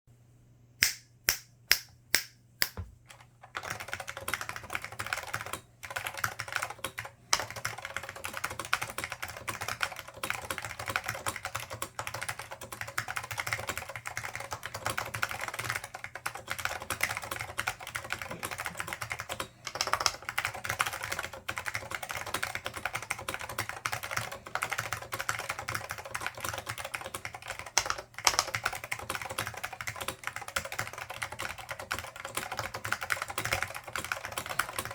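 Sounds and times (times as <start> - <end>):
keyboard typing: 2.6 - 34.9.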